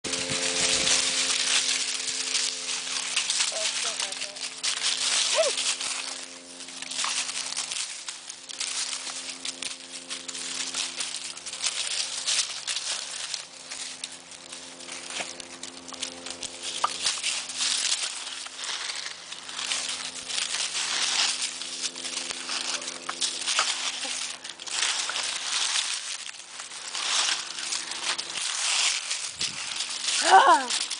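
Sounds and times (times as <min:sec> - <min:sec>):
dry leaves crunching: 0:00.0 - 0:30.9.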